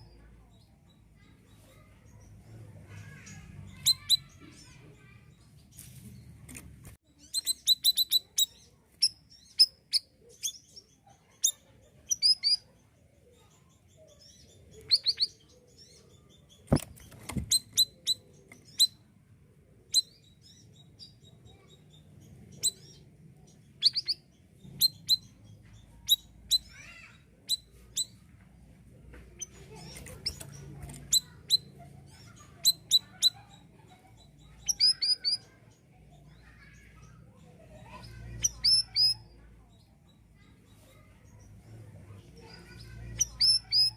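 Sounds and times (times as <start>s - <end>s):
bird chirping: 0.0s - 19.2s, 19.8s - 43.9s.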